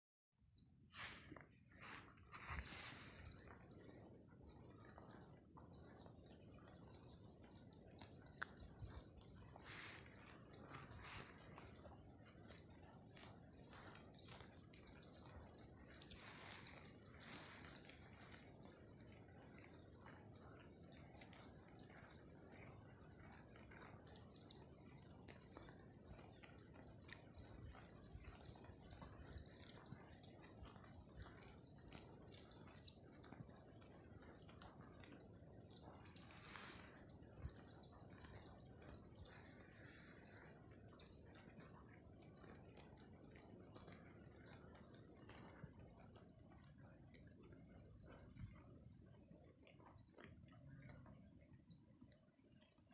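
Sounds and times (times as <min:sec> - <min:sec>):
small birds chirping: 0:00.4 - 0:52.9.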